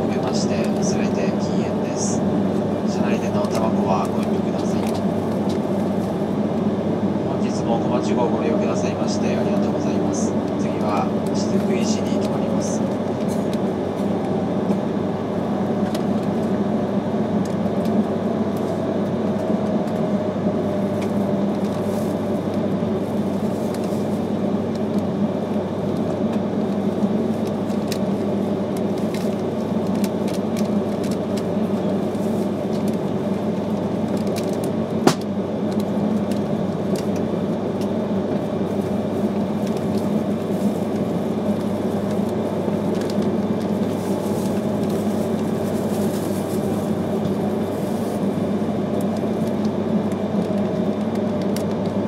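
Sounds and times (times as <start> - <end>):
train cabin rumble: 0.0 - 52.0.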